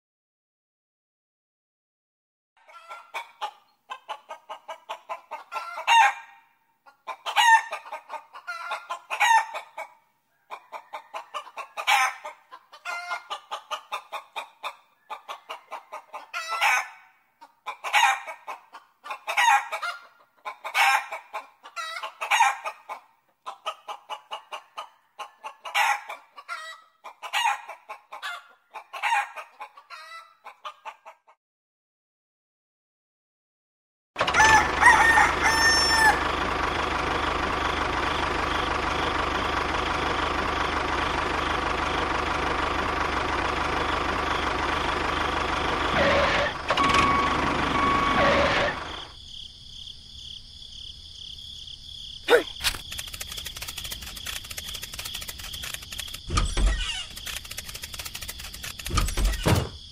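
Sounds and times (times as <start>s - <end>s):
chickens clucking: 2.6s - 31.4s, 34.2s - 49.2s, 52.3s - 59.9s.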